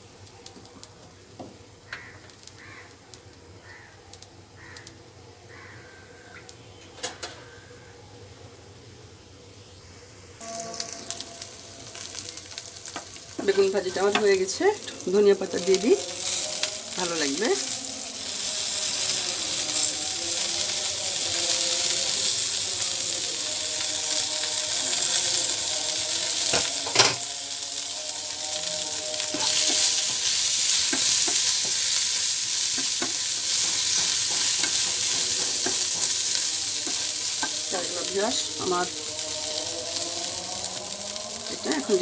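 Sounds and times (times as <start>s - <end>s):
eggplant sizzling in oil: 0.0s - 4.9s, 9.4s - 42.0s.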